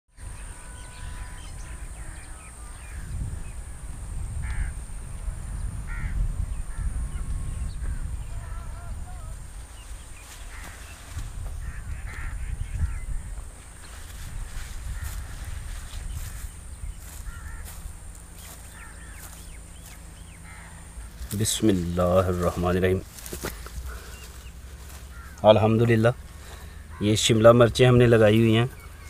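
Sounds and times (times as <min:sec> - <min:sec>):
birds calling and chirping: 0:00.1 - 0:29.0
steady low rumbling noise: 0:00.2 - 0:29.0.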